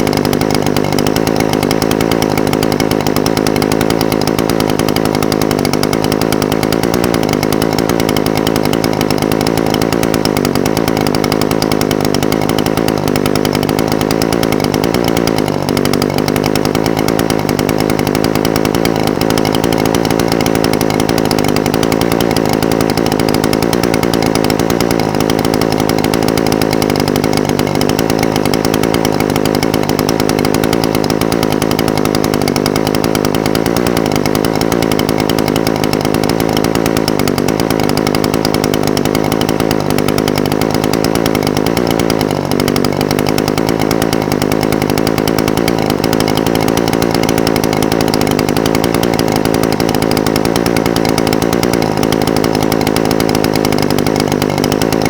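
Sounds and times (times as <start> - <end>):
two-stroke engine idling: 0.0 - 55.0.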